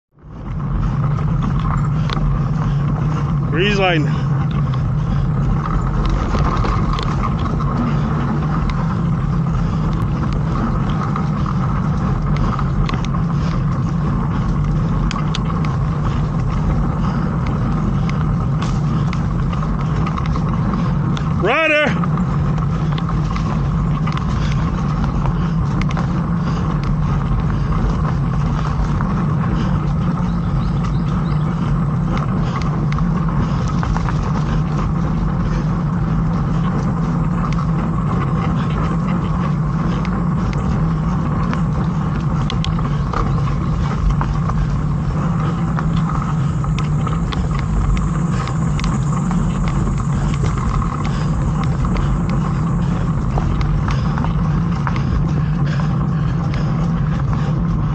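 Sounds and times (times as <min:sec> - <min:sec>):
wind rush: 0:00.2 - 0:57.9
bike knocks and rattles: 0:00.3 - 0:57.9.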